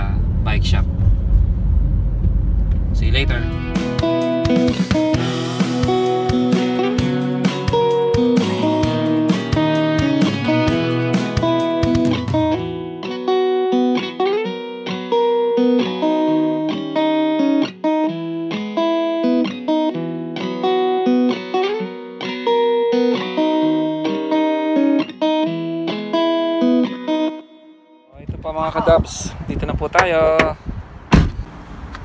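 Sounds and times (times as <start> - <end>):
plucked guitar melody: 2.4 - 29.0.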